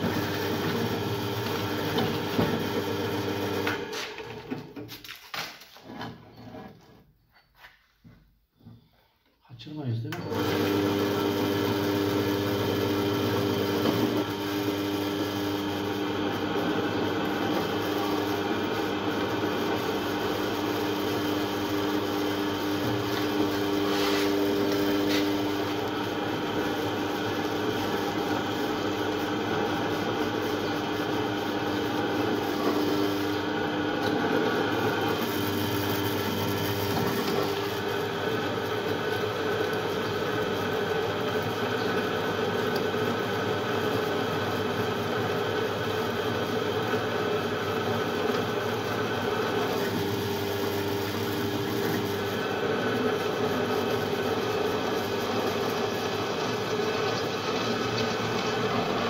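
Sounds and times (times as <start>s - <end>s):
drill press motor hum: 0.0s - 4.6s, 10.1s - 59.0s.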